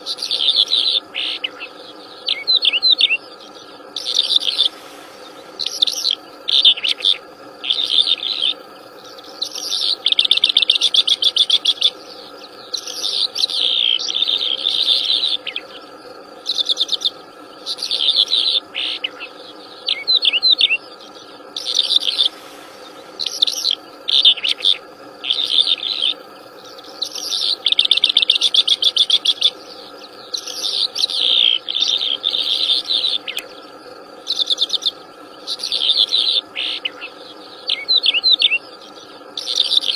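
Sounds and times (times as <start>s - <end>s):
faint steady drone: 0.0s - 39.9s
songbird singing trills: 0.0s - 39.9s.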